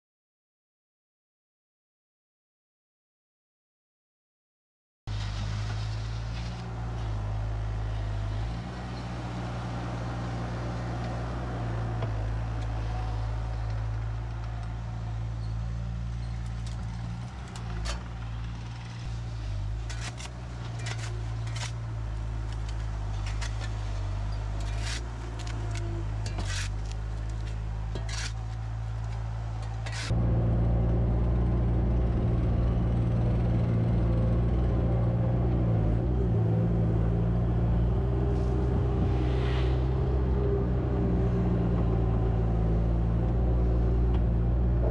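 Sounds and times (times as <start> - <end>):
diesel engine running: 5.7 - 44.9.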